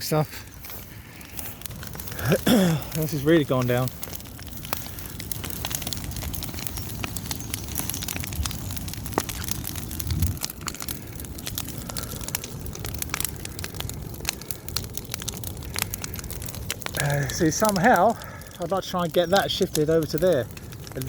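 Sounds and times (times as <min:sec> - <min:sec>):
bonfire crackling and popping: 0:00.0 - 0:21.0
low fire rumble: 0:00.0 - 0:21.0.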